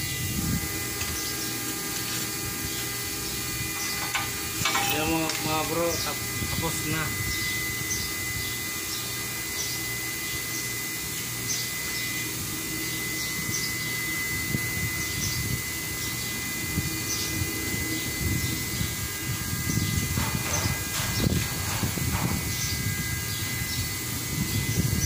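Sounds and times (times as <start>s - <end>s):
machine hum with high whine: 0.0s - 25.0s.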